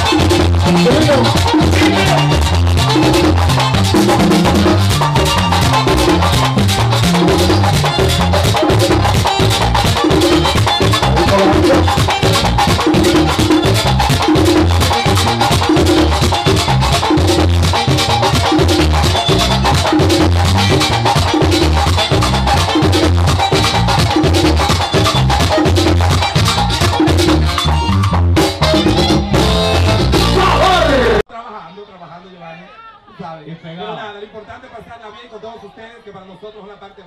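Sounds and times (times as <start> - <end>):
dense percussion: 0.0 - 30.6
bass line: 0.0 - 31.3.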